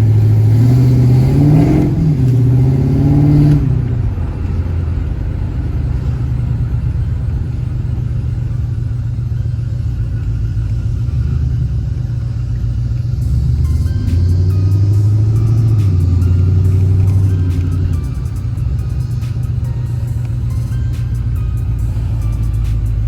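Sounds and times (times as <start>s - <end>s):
vee eight engine revving and rumbling: 0.0s - 23.0s.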